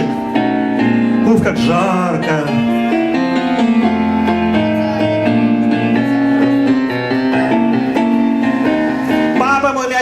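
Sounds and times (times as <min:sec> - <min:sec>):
keyboard playing blues chords: 0:00.0 - 0:10.0.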